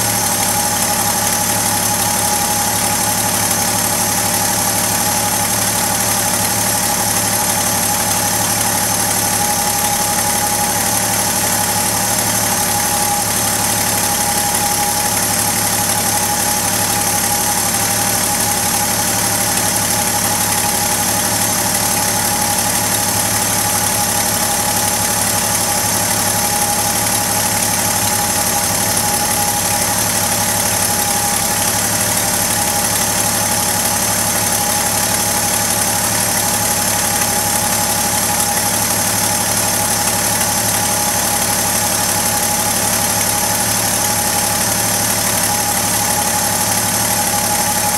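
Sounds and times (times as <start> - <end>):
pickup engine idling: 0.0 - 47.9.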